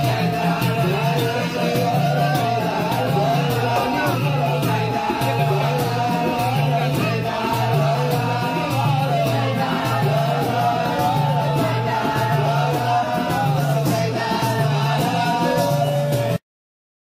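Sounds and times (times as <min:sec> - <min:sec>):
person singing devotional song: 0:00.0 - 0:16.4.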